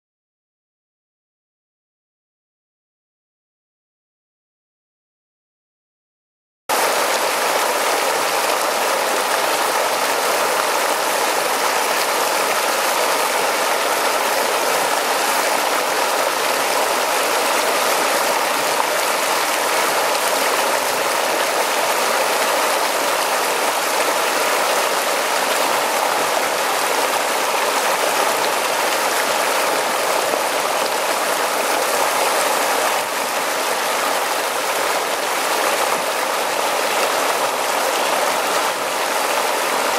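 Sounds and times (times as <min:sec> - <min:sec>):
small cascade rushing and splashing: 0:06.7 - 0:39.9.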